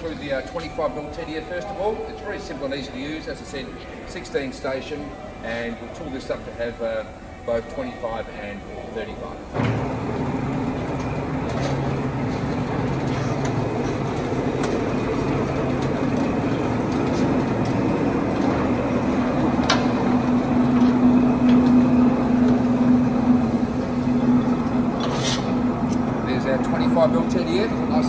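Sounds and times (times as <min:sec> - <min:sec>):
roll former machine humming: 0:00.0 - 0:28.0.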